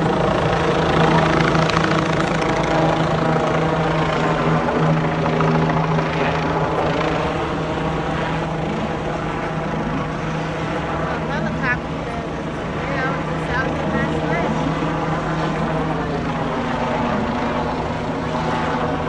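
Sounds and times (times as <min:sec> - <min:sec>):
loud engine drone: 0:00.0 - 0:19.0.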